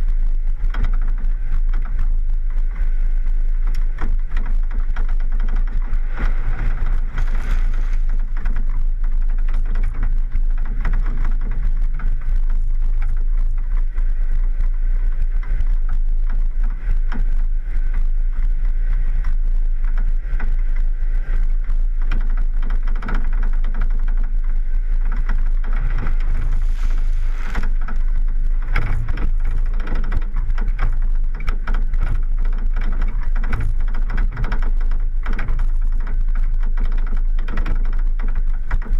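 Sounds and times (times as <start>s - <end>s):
off-road vehicle engine rumble: 0.0s - 38.9s
wind: 0.0s - 38.9s.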